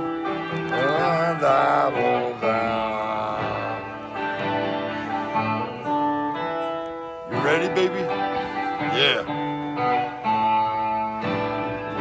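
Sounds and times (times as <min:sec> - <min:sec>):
electric guitar held notes: 0:00.0 - 0:12.0
live rock band music: 0:00.0 - 0:12.0.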